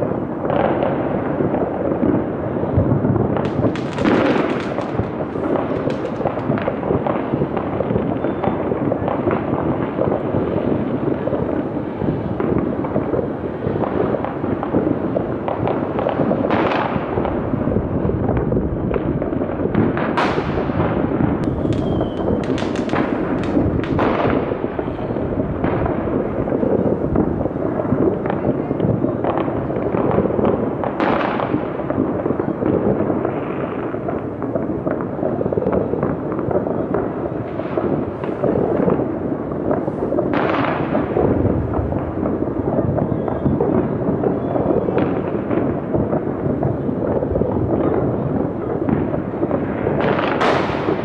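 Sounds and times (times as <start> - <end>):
fireworks crackling: 0.0 - 51.0
loud firework blasts: 0.0 - 51.0.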